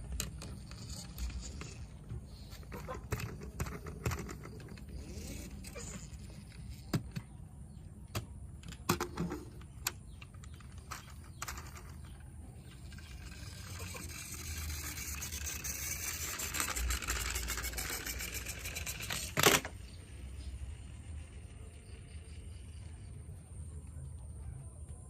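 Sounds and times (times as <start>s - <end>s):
toy vehicles clicking and clattering: 0.0s - 24.2s.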